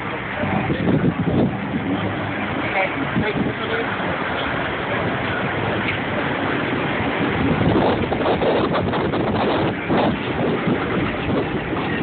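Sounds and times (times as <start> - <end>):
cars driving past: 0.0 - 12.0
wind buffeting microphone: 0.0 - 12.0.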